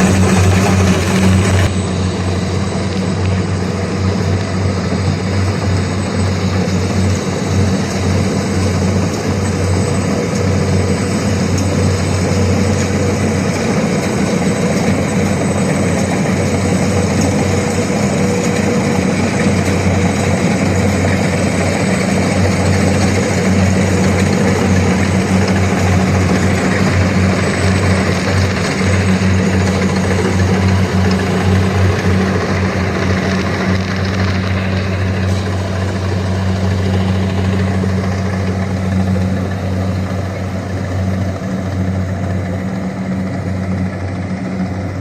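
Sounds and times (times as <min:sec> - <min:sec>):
combine harvester diesel engine: 0:00.0 - 0:45.0
machinery whir: 0:00.0 - 0:45.0.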